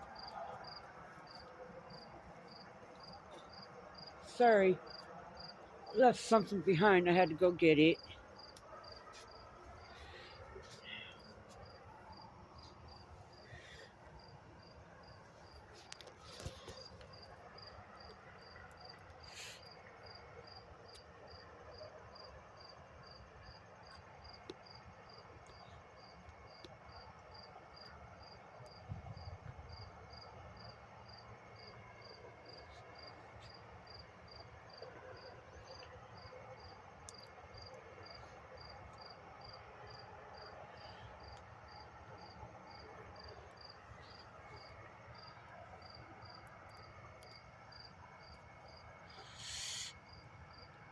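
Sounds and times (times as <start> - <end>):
cricket chirping: 0.0 - 50.9.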